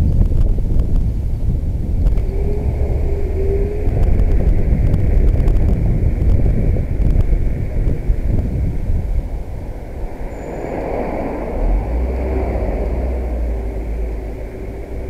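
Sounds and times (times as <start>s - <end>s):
wind rushing over microphone: 0.0s - 15.0s
car traffic: 1.0s - 15.0s.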